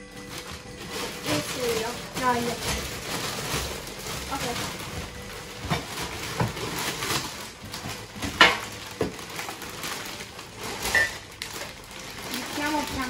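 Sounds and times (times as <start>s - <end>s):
packaging rustling and knocking: 0.0s - 13.0s.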